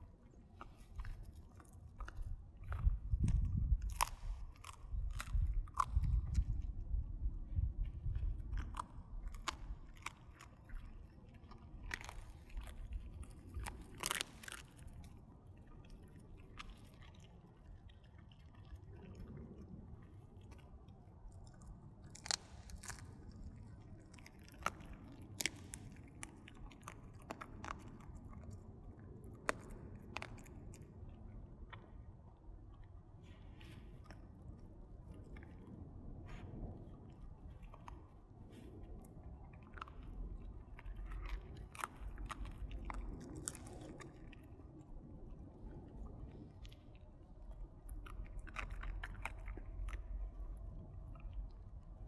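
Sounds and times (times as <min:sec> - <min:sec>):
dog chewing bones: 0:00.0 - 0:52.0.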